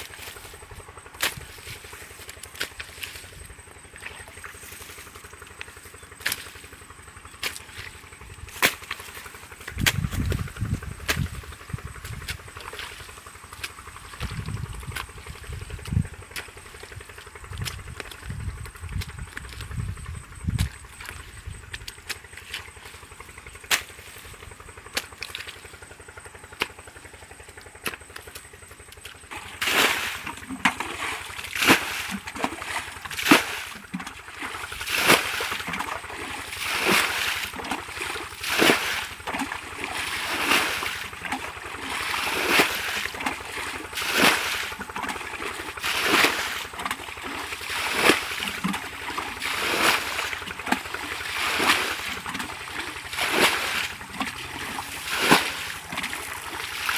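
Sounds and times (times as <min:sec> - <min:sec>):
water splashing and sloshing: 0:00.0 - 0:56.9.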